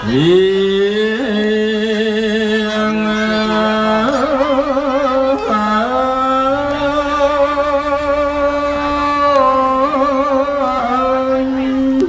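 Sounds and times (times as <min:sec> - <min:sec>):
monk chanting solo: 0:00.0 - 0:12.0.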